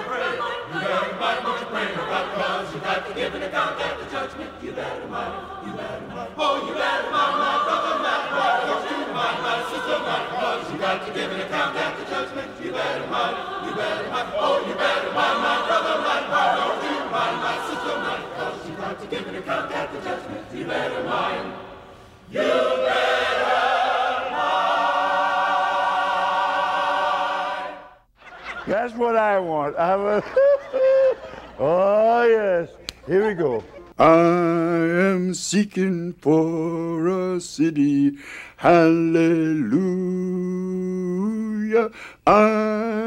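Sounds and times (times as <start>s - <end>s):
mixed choir singing a cappella: 0.0s - 28.0s, 34.0s - 43.0s.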